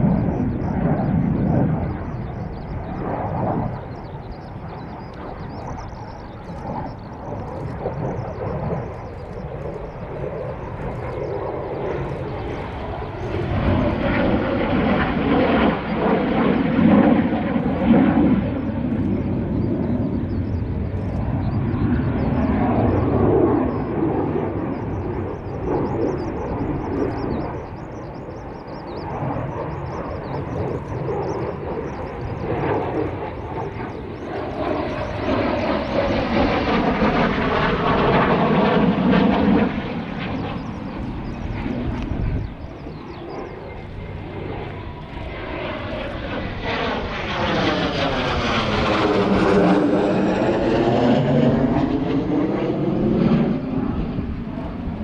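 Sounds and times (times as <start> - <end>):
aircraft engine roar: 0.0 - 55.0.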